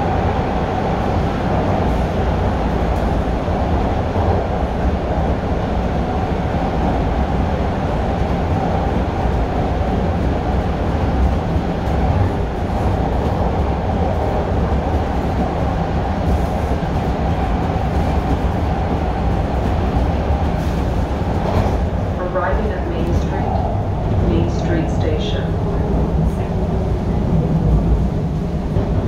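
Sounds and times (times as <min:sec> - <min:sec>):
subway train rumbling on rails: 0:00.0 - 0:29.0.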